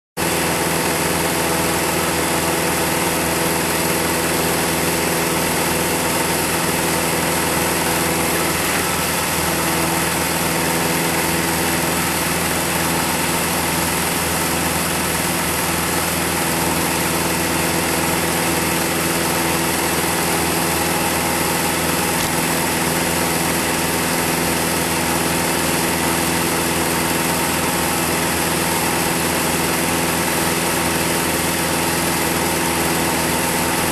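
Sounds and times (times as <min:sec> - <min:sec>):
film projector whirring: 0:00.2 - 0:33.9.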